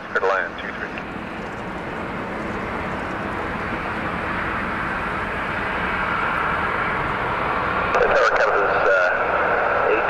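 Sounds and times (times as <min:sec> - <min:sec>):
high jet whine: 0:00.0 - 0:10.0
jet engines rushing: 0:00.0 - 0:10.0.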